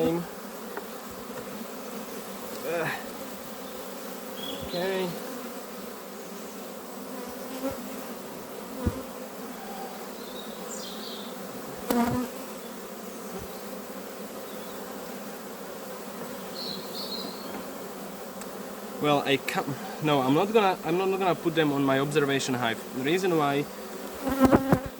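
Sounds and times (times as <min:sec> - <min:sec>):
honeybees buzzing: 0:00.0 - 0:24.9.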